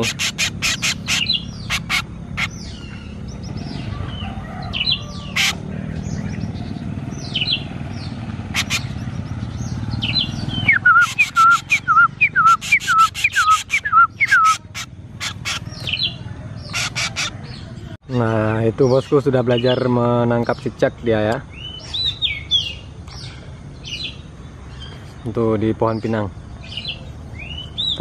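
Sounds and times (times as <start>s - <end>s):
bird chirps and calls: 0.0s - 28.0s.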